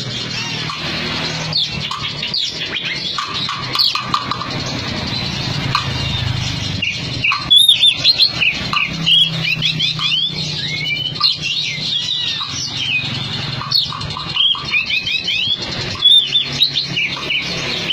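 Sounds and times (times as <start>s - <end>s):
bird singing whistled notes: 1.3s - 17.9s.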